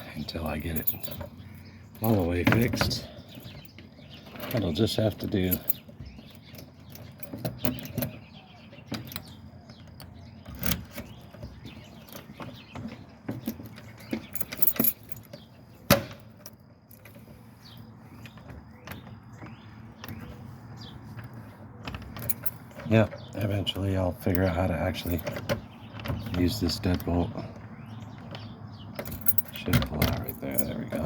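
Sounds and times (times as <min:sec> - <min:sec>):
door handle and deadbolt rattling: 0:00.3 - 0:17.3, 0:18.2 - 0:31.0.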